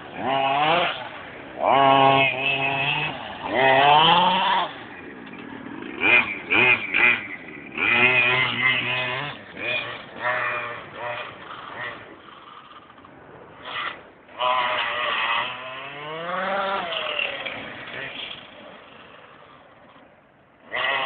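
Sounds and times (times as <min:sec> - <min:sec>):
small two-stroke engine revving: 0:00.0 - 0:21.0.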